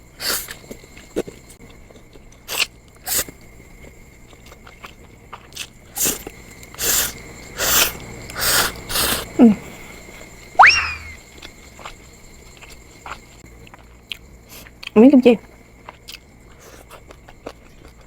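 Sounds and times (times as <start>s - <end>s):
crunchy chewing and biting: 0.1s - 9.3s, 10.6s - 18.0s.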